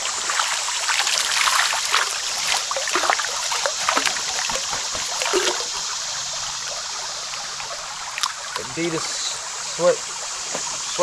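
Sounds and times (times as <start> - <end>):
creek water babbling: 0.0 - 11.0
small water splashes: 0.0 - 11.0.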